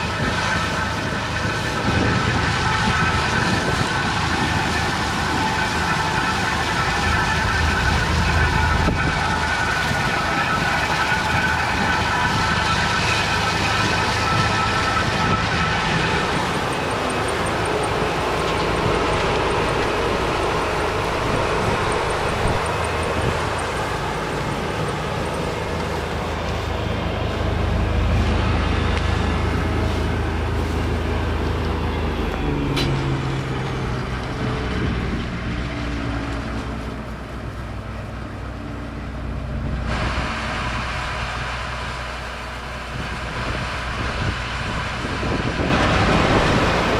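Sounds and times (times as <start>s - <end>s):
combine harvester drone: 0.0s - 46.9s.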